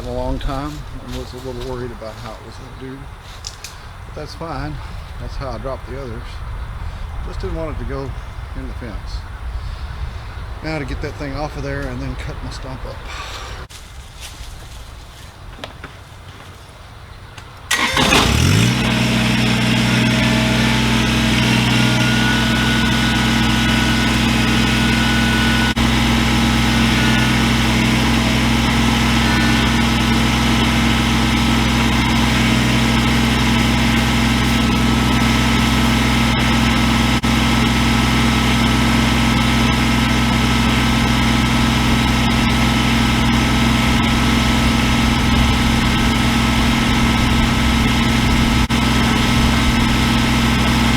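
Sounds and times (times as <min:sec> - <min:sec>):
tractor engine starting and idling: 0:00.0 - 0:09.0, 0:10.6 - 0:13.7, 0:17.6 - 0:50.9.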